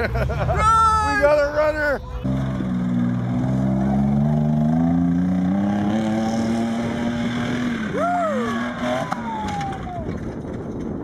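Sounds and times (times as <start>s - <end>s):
truck engine running hard: 1.9s - 11.0s.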